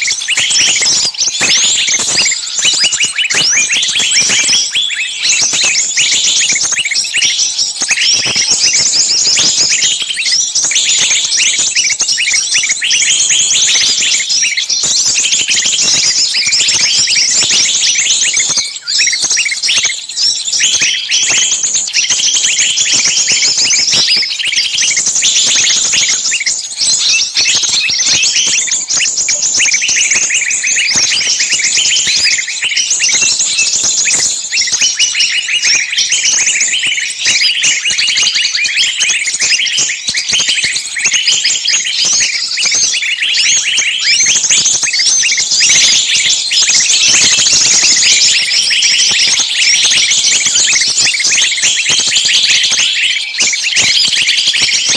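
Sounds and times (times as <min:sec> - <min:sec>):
chorus of rapid high chirps: 0:00.0 - 0:54.9.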